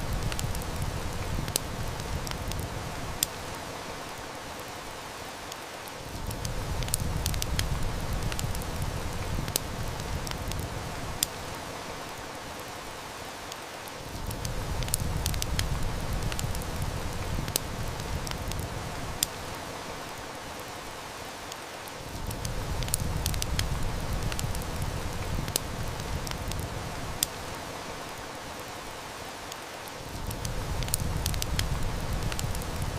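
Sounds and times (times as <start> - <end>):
heavy rain hissing: 0.0 - 32.9
wood fire crackling: 0.0 - 32.9.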